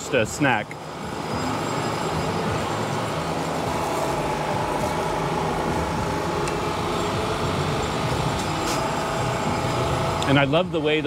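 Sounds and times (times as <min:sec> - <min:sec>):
engine humming steadily: 0:00.0 - 0:11.0
street noise: 0:00.0 - 0:11.0.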